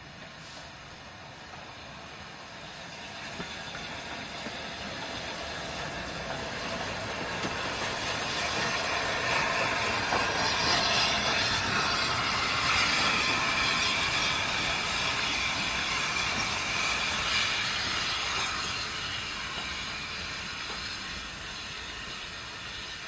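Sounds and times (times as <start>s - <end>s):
train passing: 0.0s - 23.0s
wheels hissing on rails: 0.0s - 23.0s.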